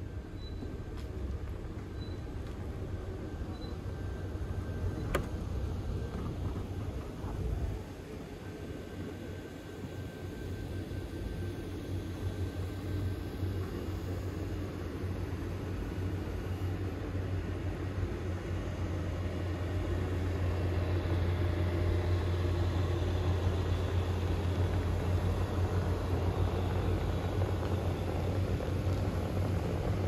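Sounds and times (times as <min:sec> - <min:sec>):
blower fans humming: 0:00.0 - 0:30.0.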